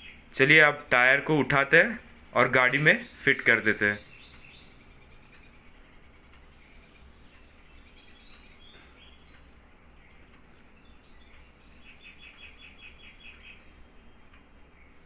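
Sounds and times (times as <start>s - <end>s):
low steady hum: 0.0s - 15.0s
faint high-pitched chirps: 1.7s - 15.0s.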